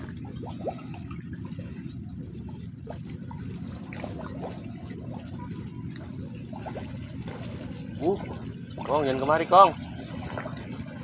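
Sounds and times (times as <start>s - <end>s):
low rumble: 0.0s - 11.0s
sea water lapping: 0.0s - 11.0s.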